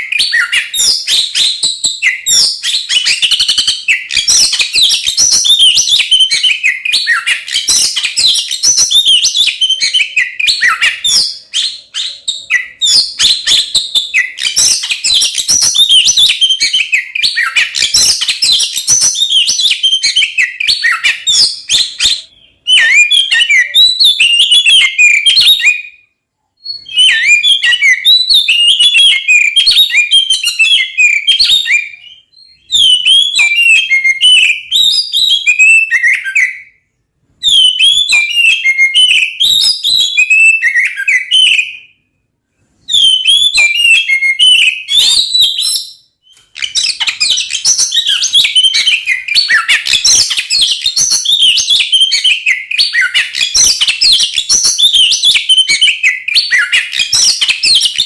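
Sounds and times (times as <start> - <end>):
bird singing whistles and chirps: 0.0 - 42.0, 42.8 - 58.0.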